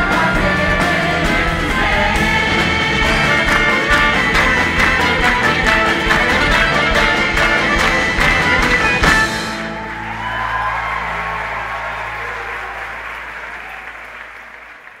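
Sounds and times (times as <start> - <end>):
choir and band playing: 0.0 - 13.9
audience applause: 2.5 - 15.0.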